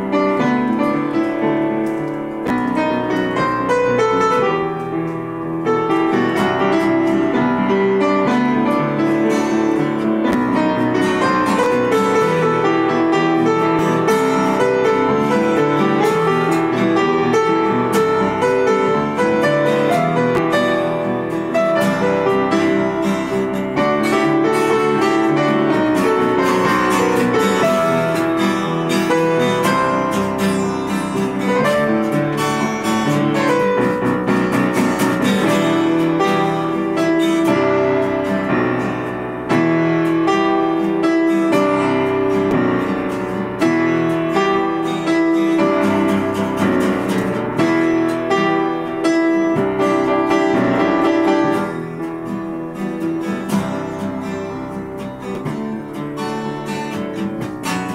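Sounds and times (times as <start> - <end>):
acoustic guitar: 0.0 - 57.9
upright piano: 0.0 - 57.9.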